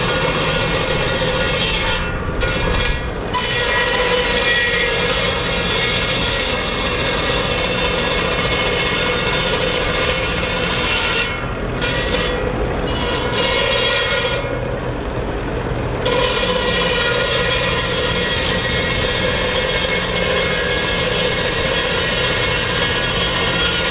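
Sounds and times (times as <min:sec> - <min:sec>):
circular saw rasping through logs: 0:00.0 - 0:23.9
tractor engine running: 0:00.0 - 0:23.9.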